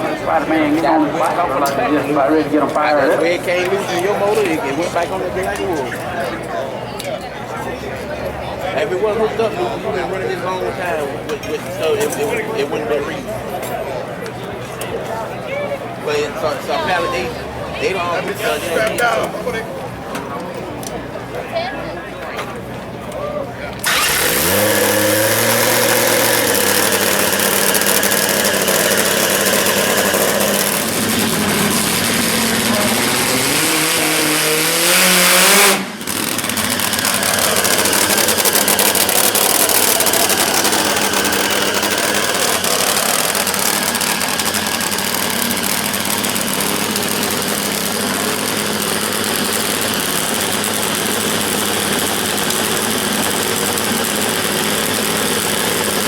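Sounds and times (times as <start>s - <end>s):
motorcycle engines running: 0.0s - 56.0s.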